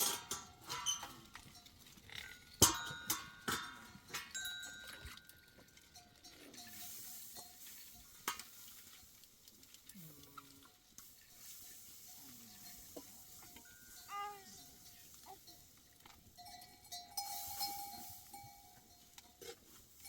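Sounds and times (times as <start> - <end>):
metallic clinks: 0.0 - 9.1, 10.6 - 20.0.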